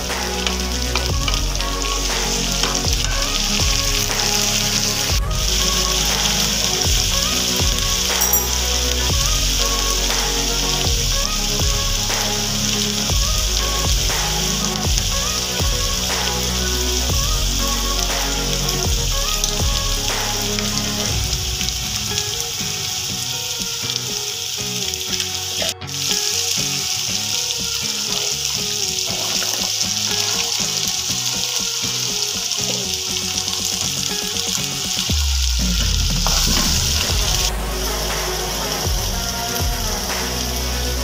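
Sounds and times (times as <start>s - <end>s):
spices sizzling in hot oil: 0.0s - 41.0s.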